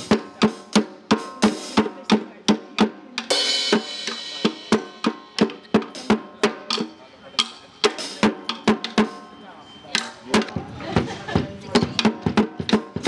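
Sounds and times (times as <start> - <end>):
drum kit beat: 0.0 - 13.0.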